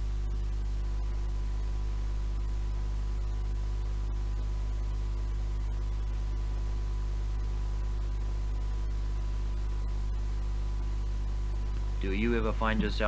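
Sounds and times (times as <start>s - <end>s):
faint high whine: 0.0s - 13.0s
low mains hum: 0.0s - 13.0s
tape hiss: 0.0s - 13.0s.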